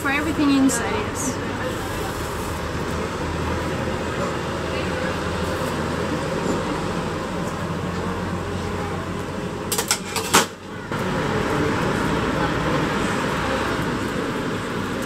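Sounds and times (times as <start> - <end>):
indistinct voices: 0.0 - 15.0
street background noise: 0.0 - 15.0.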